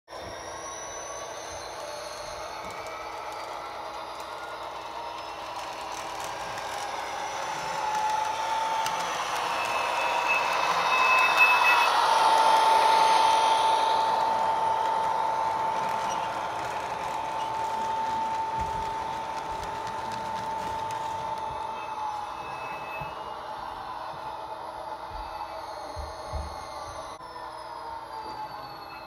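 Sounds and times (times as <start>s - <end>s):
model train motor whine: 0.1s - 29.0s
wheels on rails: 0.1s - 29.0s.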